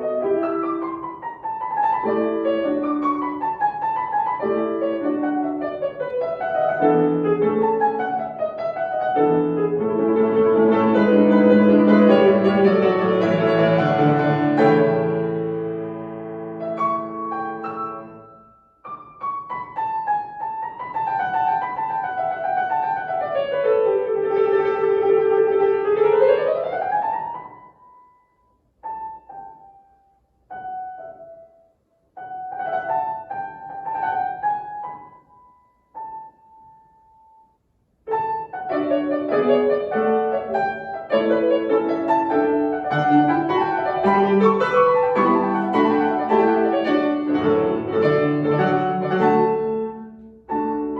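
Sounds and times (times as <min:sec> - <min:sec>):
solo piano classical music: 0:00.0 - 0:50.9.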